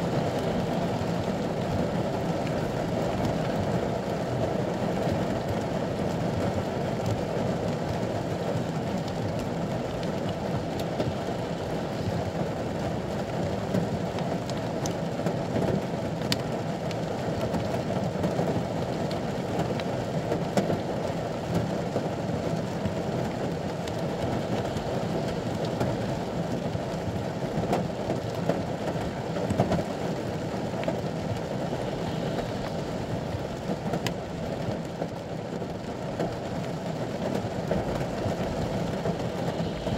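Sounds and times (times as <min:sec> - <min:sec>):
rain on a vehicle roof: 0:00.0 - 0:39.9
sharp rain ticks: 0:00.0 - 0:39.9.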